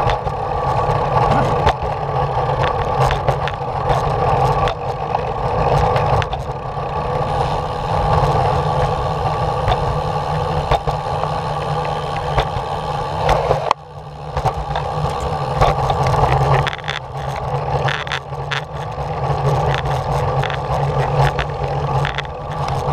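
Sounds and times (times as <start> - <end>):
wheels clicking over joints: 0.0 - 22.9
wheels rolling on concrete: 0.0 - 22.9.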